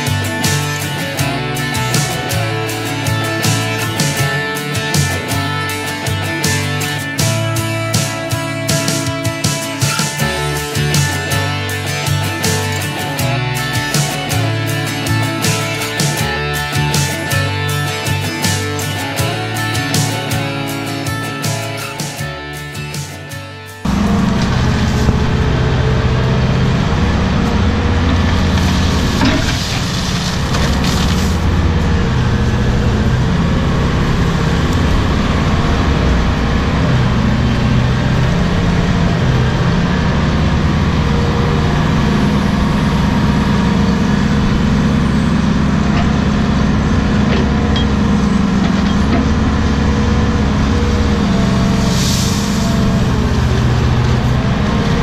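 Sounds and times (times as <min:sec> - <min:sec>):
excavator diesel engine under load: 0:00.0 - 0:55.0.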